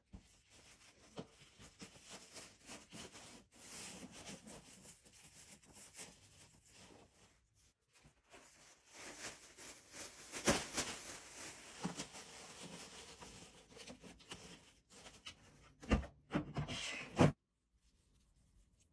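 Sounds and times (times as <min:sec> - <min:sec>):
items rustling and rubbing: 0:00.0 - 0:17.4.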